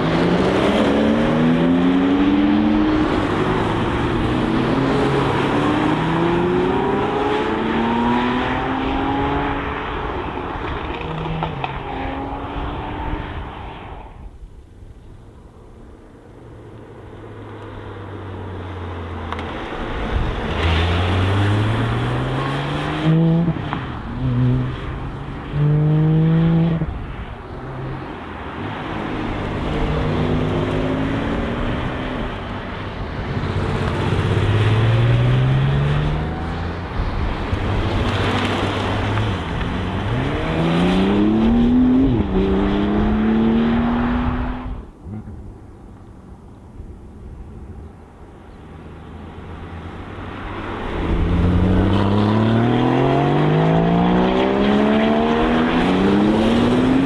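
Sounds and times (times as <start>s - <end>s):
sports cars accelerating past: 0.0s - 14.0s, 18.9s - 45.5s, 49.1s - 57.0s.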